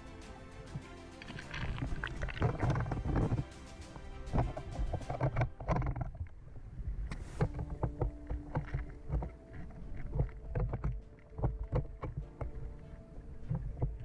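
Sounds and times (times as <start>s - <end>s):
underwater clicks and knocks: 1.2s - 3.5s, 4.4s - 6.4s, 7.0s - 14.0s
underwater rumble of moving water: 1.2s - 14.0s.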